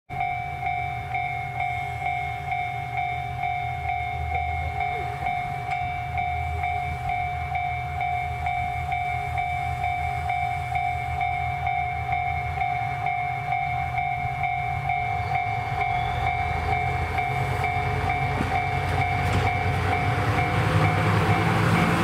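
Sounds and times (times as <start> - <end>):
diesel railcar engine rumble: 0.1 - 22.0
electronic warning tone: 0.8 - 22.0.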